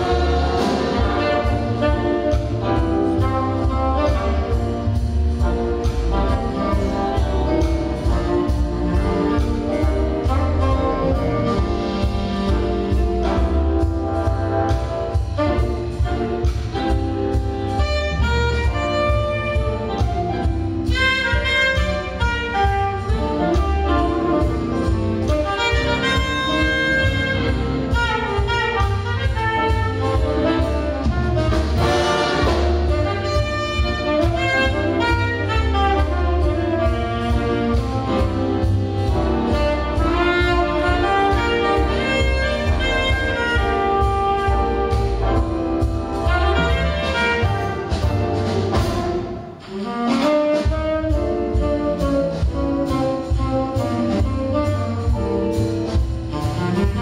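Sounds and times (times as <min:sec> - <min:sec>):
big band jazz playing: 0:00.0 - 0:57.0.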